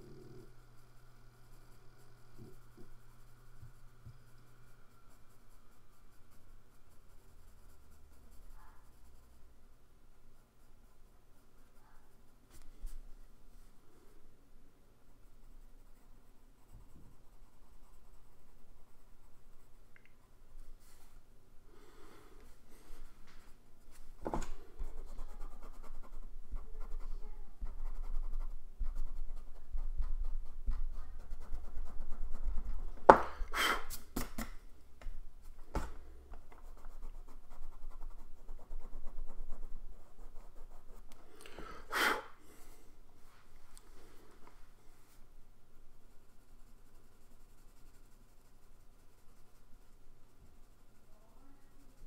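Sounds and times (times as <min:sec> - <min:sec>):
pencil scratching on paper: 0:00.0 - 0:13.2, 0:15.0 - 0:21.2, 0:22.6 - 0:34.1, 0:35.4 - 0:41.2, 0:45.1 - 0:52.0.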